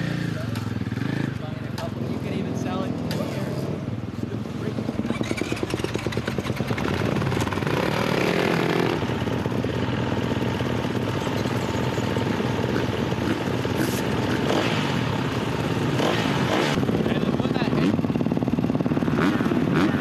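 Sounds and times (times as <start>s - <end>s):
dirt bike engine revving: 0.0s - 20.0s
dirt bike engines running: 0.0s - 20.0s.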